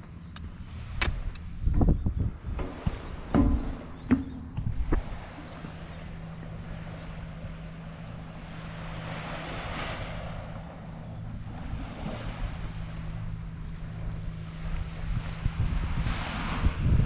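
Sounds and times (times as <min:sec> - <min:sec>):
steady low hum: 0:00.0 - 0:17.0
wind on microphone: 0:00.4 - 0:17.0
small waves washing onto beach: 0:02.3 - 0:17.0.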